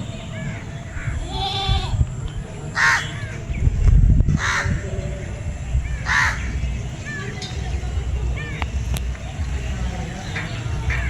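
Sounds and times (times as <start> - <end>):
animal calls: 0.0 - 3.5, 4.3 - 11.0
low rumble: 0.0 - 11.0.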